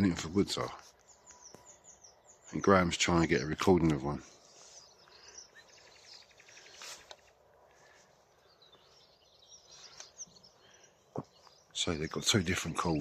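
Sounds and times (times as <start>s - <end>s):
faint nightingale calls: 0.0s - 13.0s.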